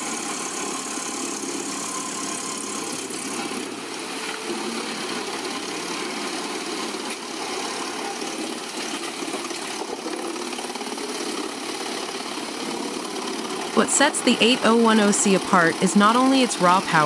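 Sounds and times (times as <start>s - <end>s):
wood chipper running: 0.0s - 17.0s.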